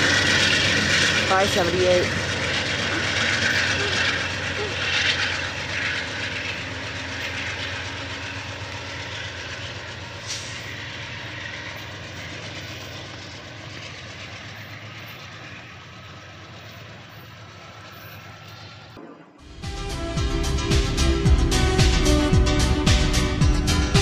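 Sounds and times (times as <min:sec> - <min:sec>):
diesel locomotive engine hum: 0:00.0 - 0:24.0
train rail noise: 0:00.0 - 0:24.0.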